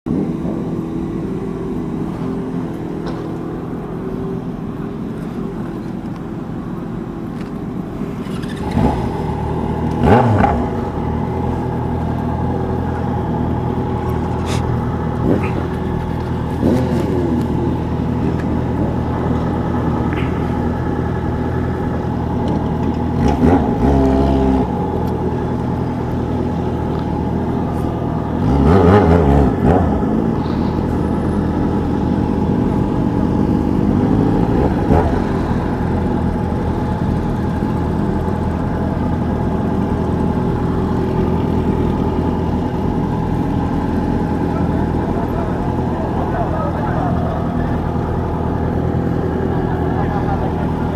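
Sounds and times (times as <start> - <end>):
motorcycle engine running: 0.1 - 50.9.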